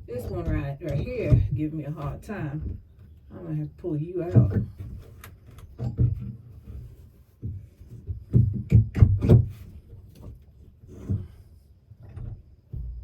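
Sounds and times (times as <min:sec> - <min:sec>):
wood knocking and creaking: 0:00.0 - 0:03.6, 0:04.2 - 0:13.0.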